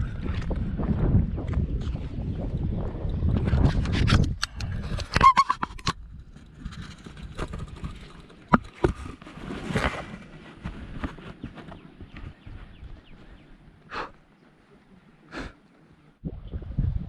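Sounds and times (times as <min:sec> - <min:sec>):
wind rumbling on microphone: 0:00.0 - 0:14.0, 0:16.1 - 0:17.0.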